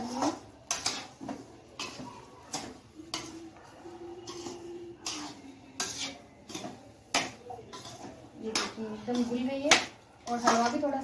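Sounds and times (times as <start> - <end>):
metal spoon scraping pan: 0.0 - 11.0.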